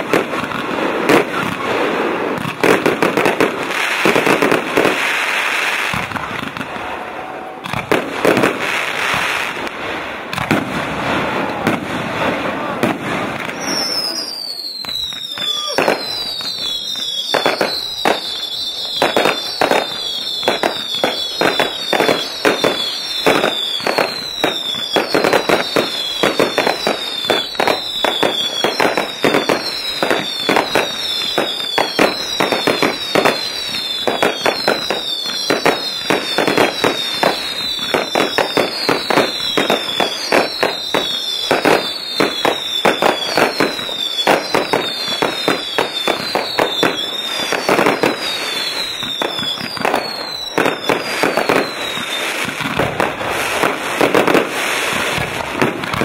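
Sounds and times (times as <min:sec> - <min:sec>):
falling firework whistles: 0:00.0 - 0:56.0
firework bangs and crackling: 0:00.0 - 0:56.0.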